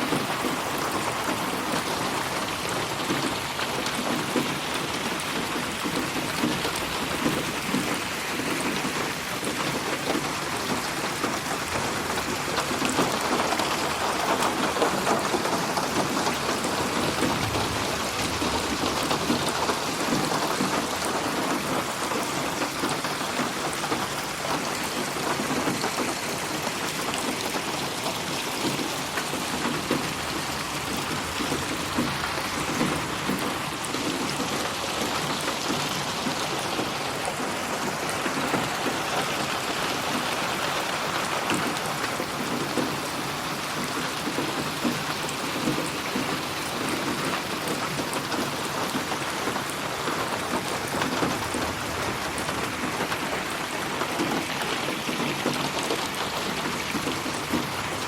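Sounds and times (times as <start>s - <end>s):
rain drops patting on surface: 0.0s - 58.0s.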